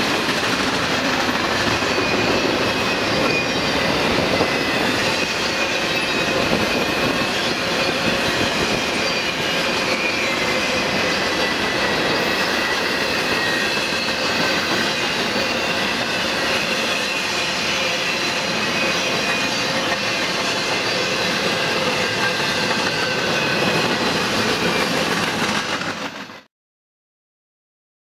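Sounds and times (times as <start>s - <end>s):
high wheel squeal: 0.0s - 26.4s
steel wheels on rail: 0.0s - 26.5s.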